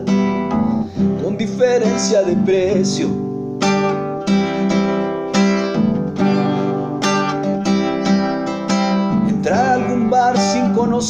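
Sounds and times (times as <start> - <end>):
classical guitar strummed chords: 0.0 - 11.0.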